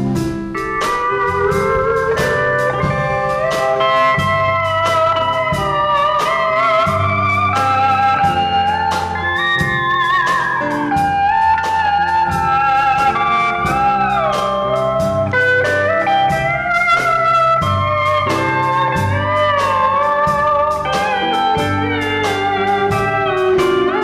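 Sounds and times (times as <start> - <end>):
band playing steady beat: 0.0 - 24.0
pedal steel guitar solo: 0.0 - 24.0.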